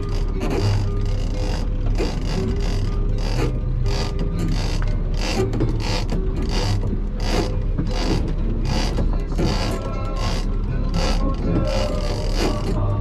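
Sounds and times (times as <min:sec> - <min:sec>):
boat engine humming: 0:00.0 - 0:13.0
fishing reel ratchet rasping: 0:00.0 - 0:13.0.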